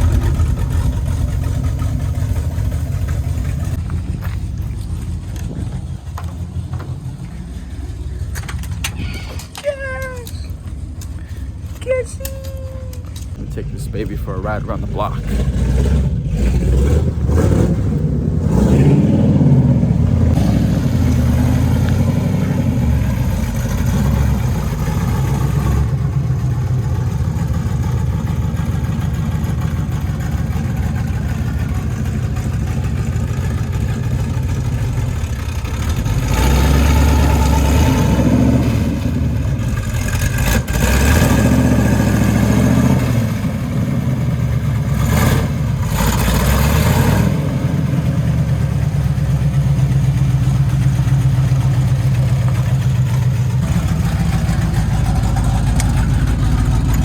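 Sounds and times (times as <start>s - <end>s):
car engine revving: 0.0s - 10.0s, 13.0s - 57.0s.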